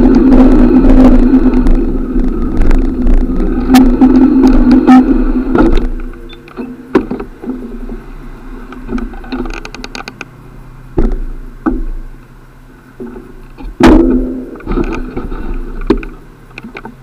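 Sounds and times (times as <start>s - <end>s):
bicycle knocks and rattles: 0.0s - 8.1s, 8.7s - 10.3s, 11.0s - 12.1s, 13.0s - 17.0s
bicycle riding rumble: 0.0s - 17.0s.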